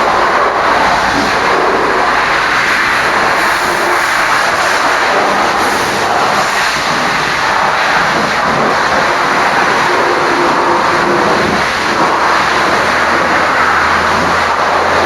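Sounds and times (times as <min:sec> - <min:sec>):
water spray hissing: 0:00.0 - 0:15.0.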